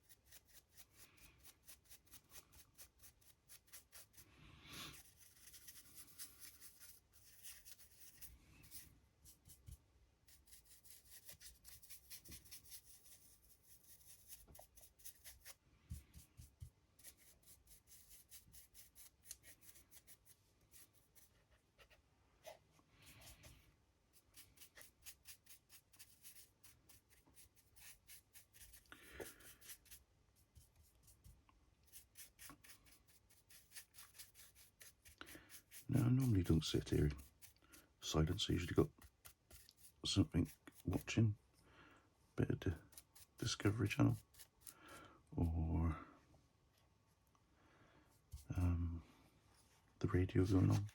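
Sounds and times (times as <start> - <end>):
paintbrush scratching: 0.0 - 41.2, 42.6 - 44.8, 50.4 - 50.9.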